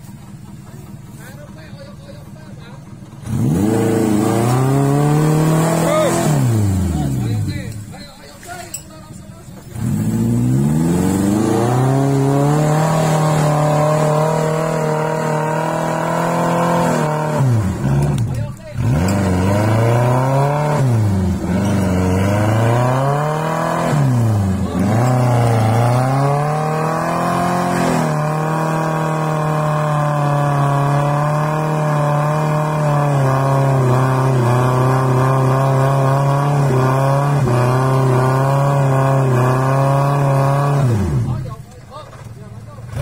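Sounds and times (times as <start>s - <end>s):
car engine revving under load: 0.0s - 43.0s.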